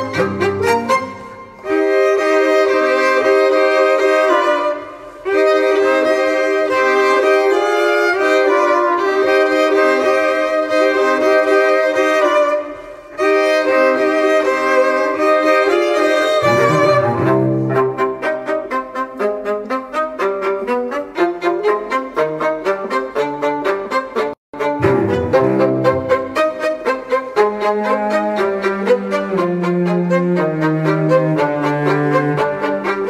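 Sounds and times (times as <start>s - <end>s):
violin melody: 0.0s - 33.0s.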